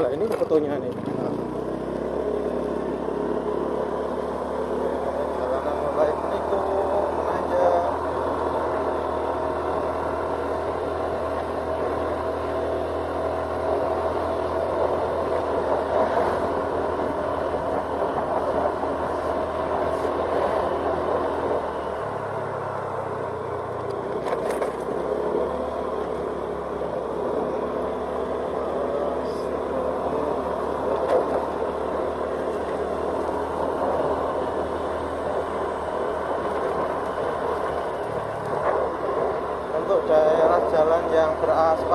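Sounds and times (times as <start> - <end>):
scooter engine running: 0.0 - 41.9
wind and road noise: 0.0 - 41.9.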